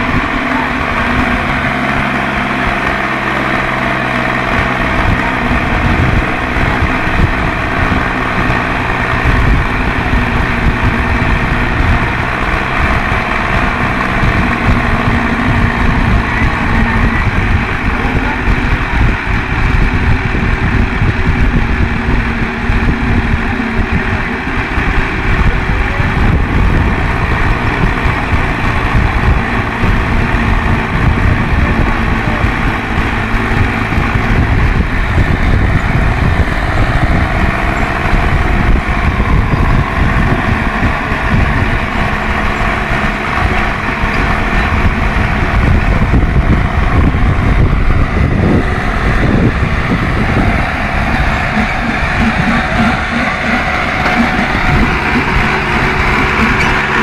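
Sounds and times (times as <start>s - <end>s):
diesel tractor engines straining: 0.0s - 57.0s
tyres spinning in dirt: 0.0s - 57.0s.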